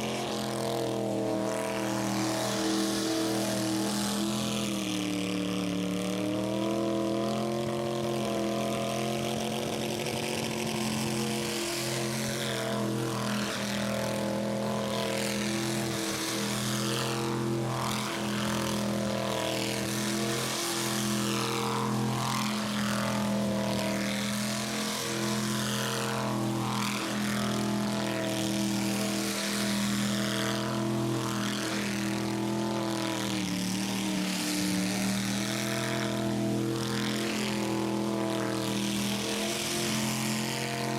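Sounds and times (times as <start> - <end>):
engine revving high: 0.0 - 40.9.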